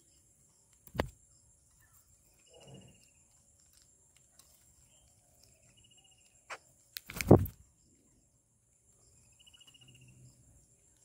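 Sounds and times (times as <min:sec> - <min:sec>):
faint trilled bird chirps: 0:01.3 - 0:03.8, 0:04.4 - 0:11.0.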